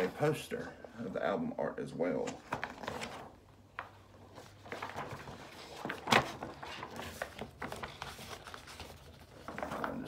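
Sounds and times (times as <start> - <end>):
paper poster rustling and crinkling: 0.0 - 1.1, 2.0 - 10.0.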